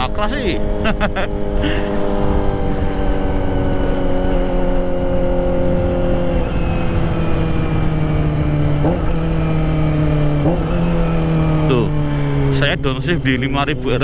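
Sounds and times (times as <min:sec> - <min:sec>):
motorcycle engine revving on downshift: 0:00.0 - 0:12.6
motorcycle engine decelerating: 0:00.0 - 0:14.0.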